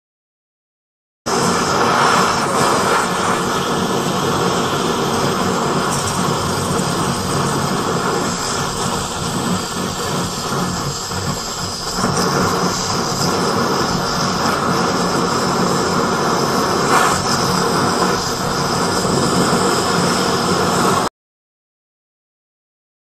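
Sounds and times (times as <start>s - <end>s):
gas torches hissing: 1.3s - 21.1s.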